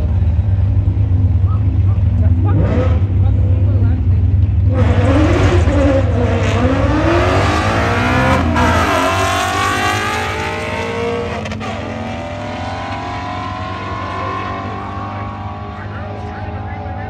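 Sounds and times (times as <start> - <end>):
drag car engines accelerating: 0.0 - 17.0.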